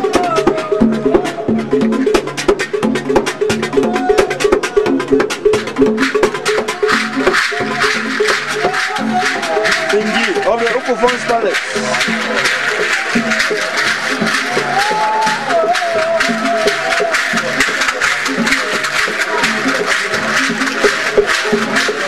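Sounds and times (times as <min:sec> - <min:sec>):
drum beats: 0:00.0 - 0:22.0
rapid rattling strikes: 0:01.4 - 0:22.0.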